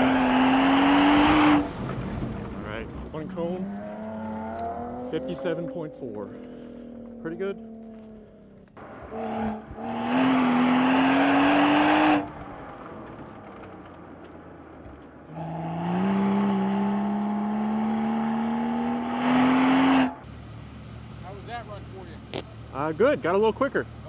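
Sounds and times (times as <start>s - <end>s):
car engine accelerating hard: 0.0s - 20.3s.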